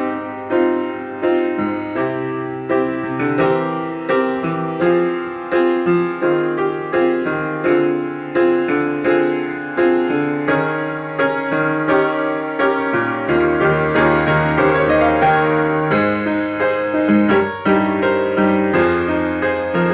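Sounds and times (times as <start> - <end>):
solo piano: 0.0 - 19.9.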